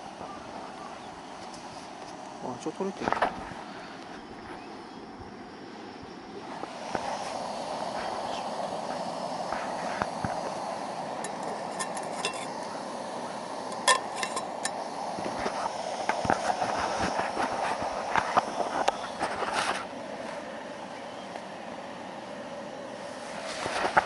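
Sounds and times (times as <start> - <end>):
camp stove burner hissing: 0.0 - 24.0.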